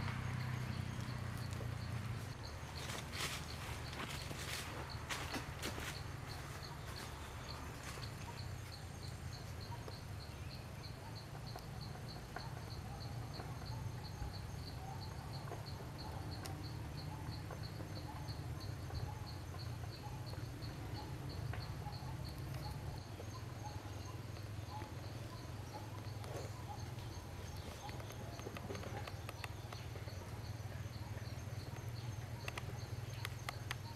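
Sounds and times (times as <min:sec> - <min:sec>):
forest background rumble: 0:00.0 - 0:33.9
insect chirping: 0:00.0 - 0:33.9.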